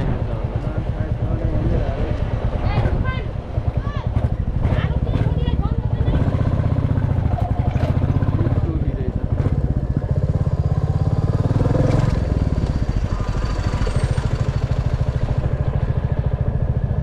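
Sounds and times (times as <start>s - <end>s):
motorcycle engine pulsing: 0.0s - 17.0s.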